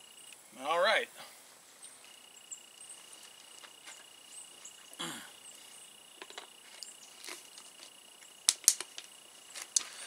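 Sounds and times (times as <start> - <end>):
steady high insect tone: 0.0 - 10.0.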